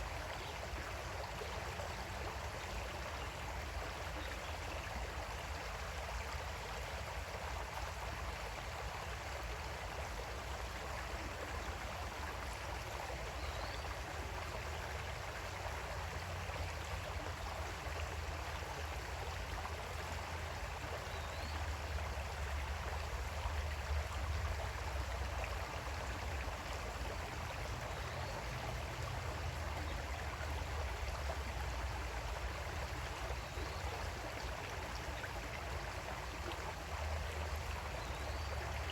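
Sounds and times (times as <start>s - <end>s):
creek flowing over stones: 0.0s - 38.9s.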